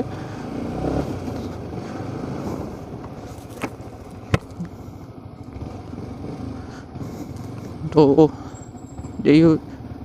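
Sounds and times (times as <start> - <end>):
motorcycle engine on road: 0.0 - 10.0.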